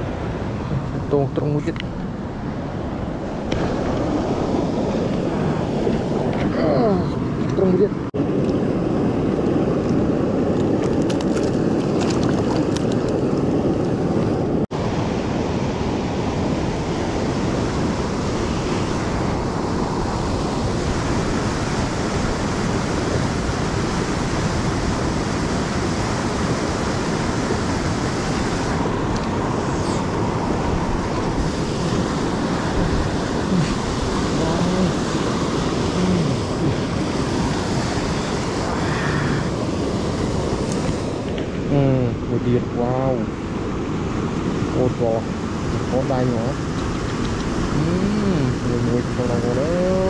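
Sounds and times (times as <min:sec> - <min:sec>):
steady rushing noise: 0:00.0 - 0:50.0.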